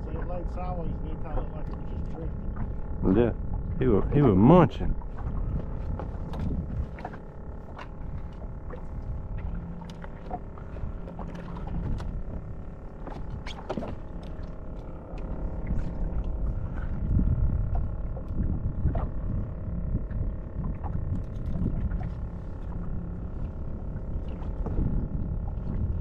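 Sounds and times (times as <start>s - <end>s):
steady motor hum: 0.0s - 26.0s
waves slapping a boat hull: 0.0s - 26.0s
wind rumbling on microphone: 0.0s - 26.0s.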